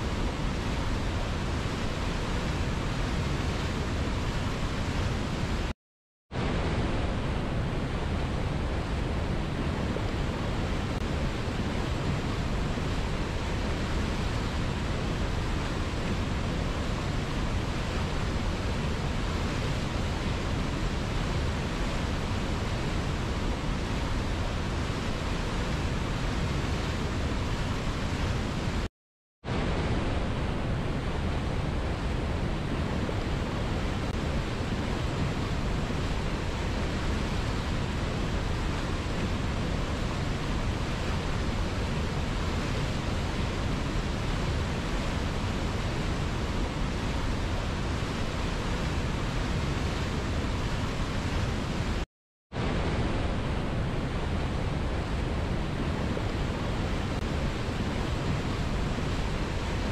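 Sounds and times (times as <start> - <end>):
river rushing over boulders: 0.0 - 5.7, 6.4 - 28.9, 29.5 - 52.0, 52.6 - 59.9.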